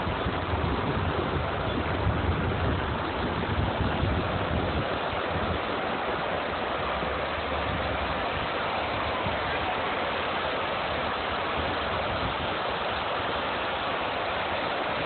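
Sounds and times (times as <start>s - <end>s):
floodwater rushing down steps: 0.0s - 15.0s
torrential rain on pavement: 0.0s - 15.0s.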